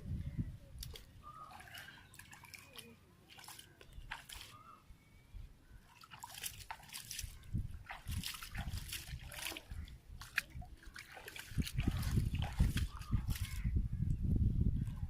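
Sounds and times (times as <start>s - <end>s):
water sloshing and splashing: 0.8s - 4.9s, 5.7s - 13.8s.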